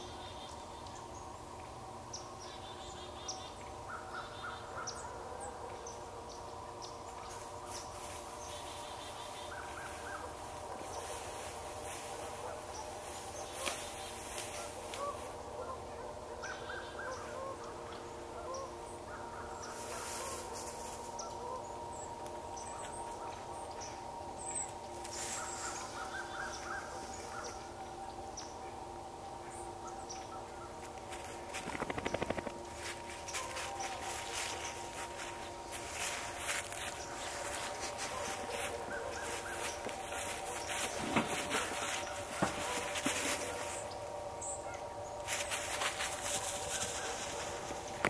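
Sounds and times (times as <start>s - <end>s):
drone of held tones: 0.0s - 48.0s.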